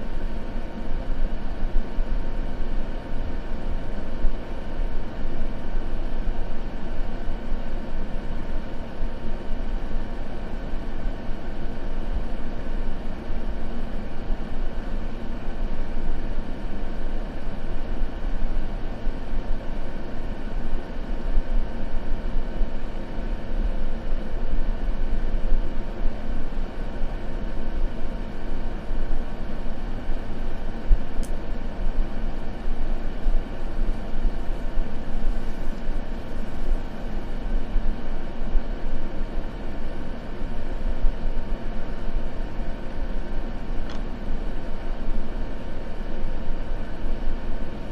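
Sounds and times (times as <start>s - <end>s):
white noise hiss: 0.0s - 47.9s.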